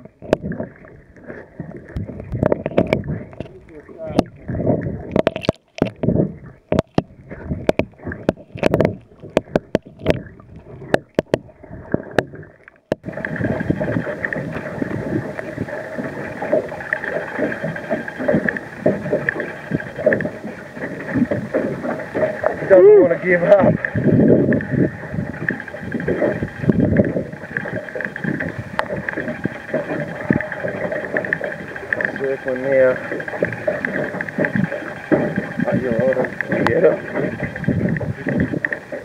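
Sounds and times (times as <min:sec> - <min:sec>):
knocks and clicks underwater: 0:00.0 - 0:39.0
water slapping boat: 0:00.0 - 0:39.0
wind noise: 0:00.0 - 0:39.0.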